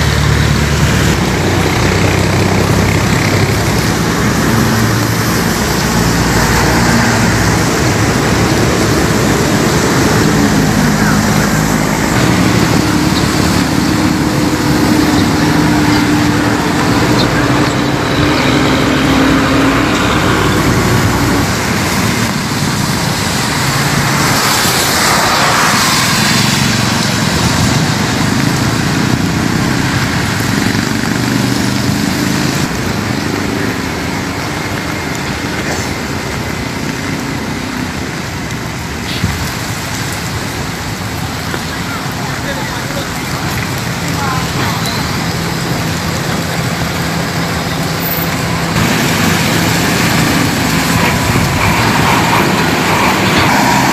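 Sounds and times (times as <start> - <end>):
vehicle passing by: 0.0 - 38.0, 41.2 - 53.9
traffic on wet road: 0.0 - 53.9.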